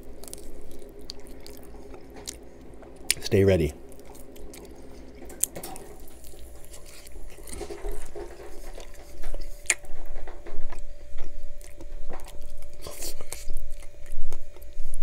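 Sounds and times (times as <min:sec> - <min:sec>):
wet chewing and lip smacks: 0:00.1 - 0:03.2, 0:03.9 - 0:07.6, 0:08.7 - 0:10.0, 0:10.7 - 0:14.9.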